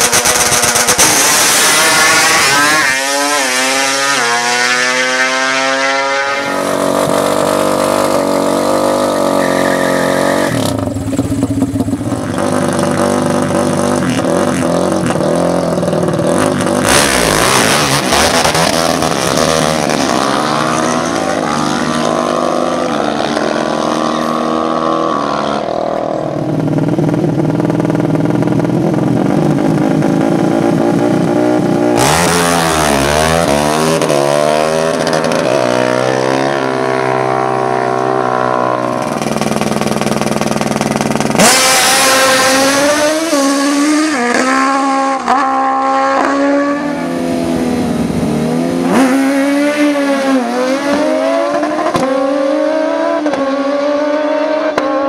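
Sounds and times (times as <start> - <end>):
racing engines revving: 0.0 - 10.9, 11.8 - 27.1, 29.2 - 55.0.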